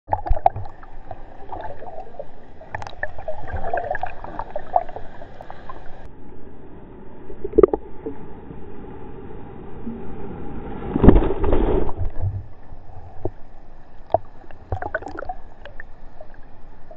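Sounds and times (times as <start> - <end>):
muffled water splashing: 0.0 - 6.1, 7.2 - 8.4, 10.0 - 16.9.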